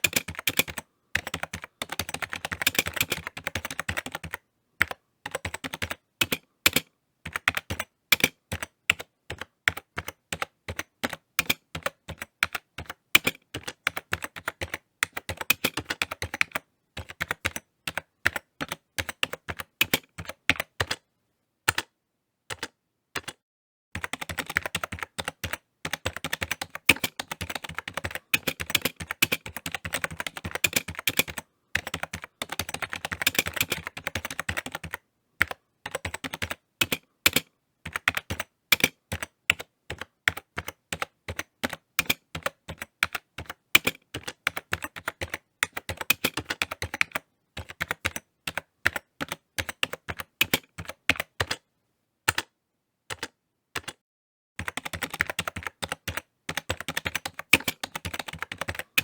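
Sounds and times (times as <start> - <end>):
typing on computer keyboard: 0.0 - 21.0, 21.7 - 21.9, 22.5 - 23.4, 24.0 - 51.6, 52.3 - 52.5, 53.1 - 54.0, 54.6 - 59.0.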